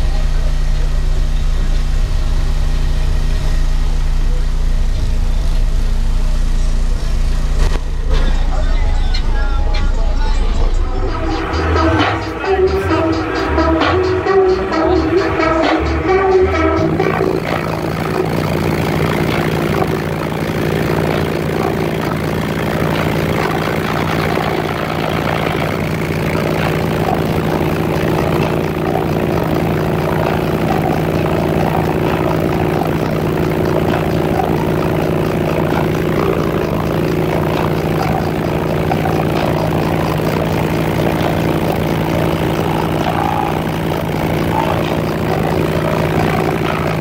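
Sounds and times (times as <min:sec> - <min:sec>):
engine idling: 0:00.0 - 0:47.0.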